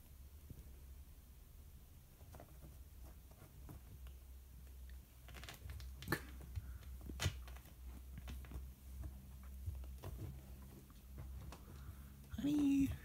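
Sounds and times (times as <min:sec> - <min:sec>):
low steady hum: 0:00.0 - 0:13.0
kitten scratching and rustling: 0:01.8 - 0:13.0.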